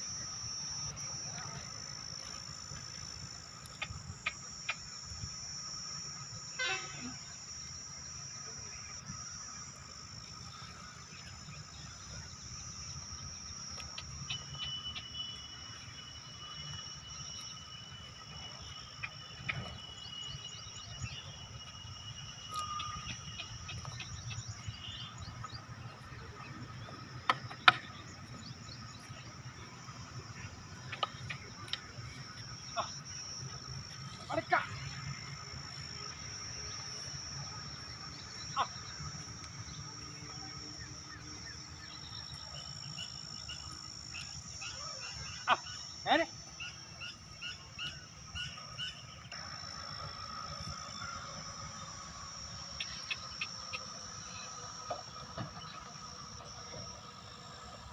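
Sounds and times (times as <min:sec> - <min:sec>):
insects chirring: 0:00.0 - 0:57.9
long steady high tone: 0:00.0 - 0:57.9.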